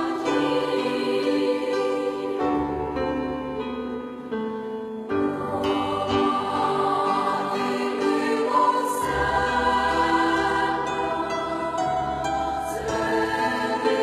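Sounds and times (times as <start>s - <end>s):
choir singing held notes: 0.0s - 3.7s, 5.1s - 14.0s.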